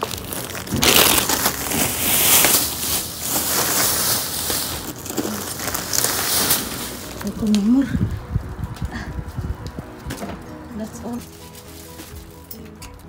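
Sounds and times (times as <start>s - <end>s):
plastic bags crinkling: 0.0s - 12.8s.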